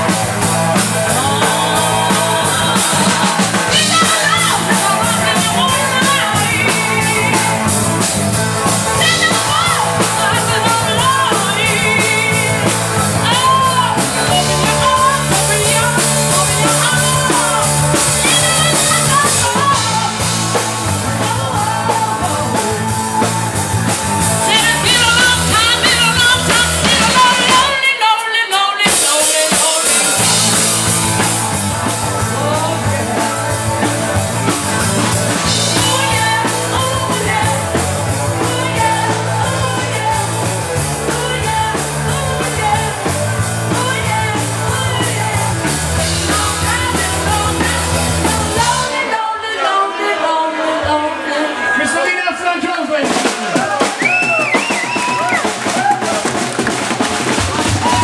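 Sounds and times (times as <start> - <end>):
bass guitar: 0.0 - 27.9, 28.9 - 49.1, 53.1 - 58.0
drum kit: 0.0 - 49.2, 52.5 - 58.0
person singing: 0.0 - 51.8.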